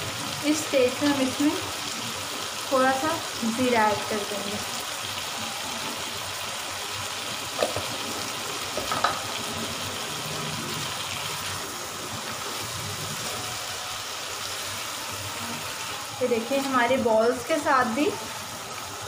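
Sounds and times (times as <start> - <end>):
meatballs sizzling in oil: 0.0 - 19.0.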